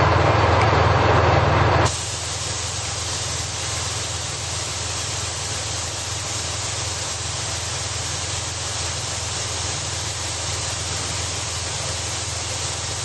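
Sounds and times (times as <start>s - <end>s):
diesel railcars idling hum: 0.0s - 13.0s
steady hiss: 1.9s - 13.0s.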